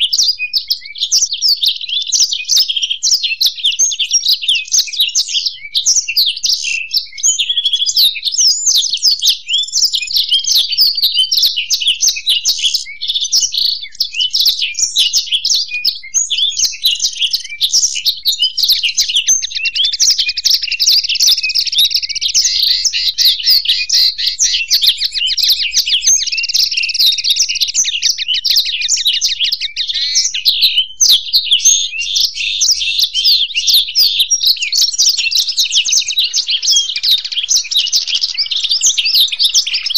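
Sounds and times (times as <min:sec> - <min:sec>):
birds twittering song: 0:00.0 - 0:39.9.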